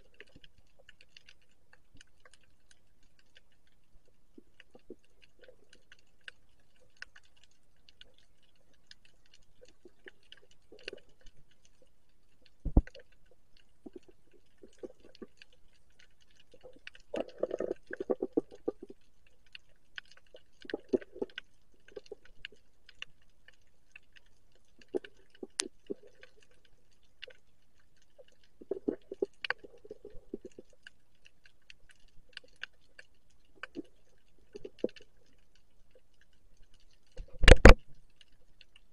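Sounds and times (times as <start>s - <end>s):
underwater clicking and crackling: 0.0s - 38.9s.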